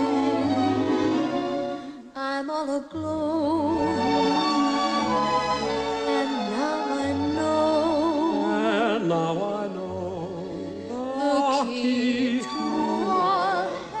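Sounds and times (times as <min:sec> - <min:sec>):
romantic ballad singing: 0:00.0 - 0:14.0.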